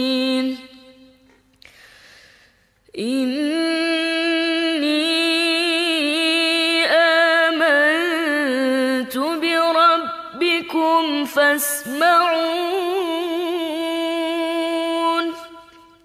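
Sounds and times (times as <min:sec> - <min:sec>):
woman chanting: 0:00.0 - 0:01.2, 0:03.0 - 0:15.8.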